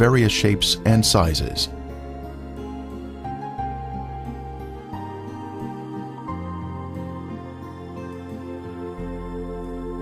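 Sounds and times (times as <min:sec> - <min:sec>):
soft synthesizer chords: 0:00.0 - 0:10.0.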